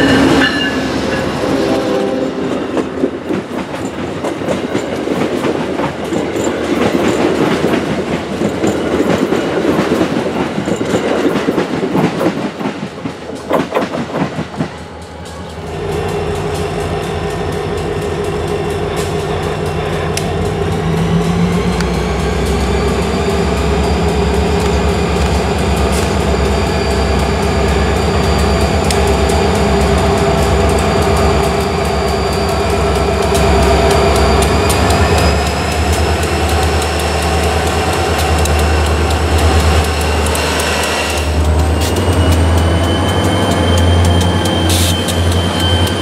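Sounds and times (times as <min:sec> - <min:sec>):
high-pitched train wheel squealing: 0:00.0 - 0:12.3, 0:13.4 - 0:46.0
diesel locomotive engine rumbling: 0:00.0 - 0:46.0.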